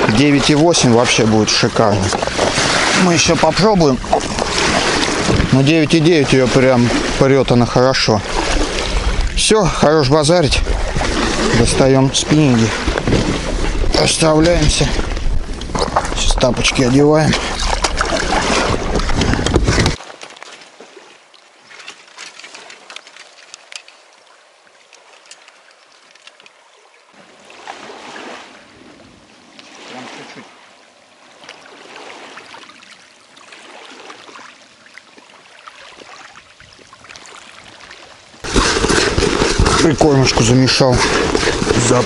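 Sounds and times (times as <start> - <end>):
river water lapping: 0.0 - 42.0.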